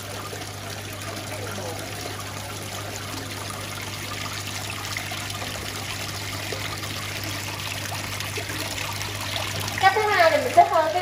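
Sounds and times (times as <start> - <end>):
trickle of running water: 0.0 - 11.0.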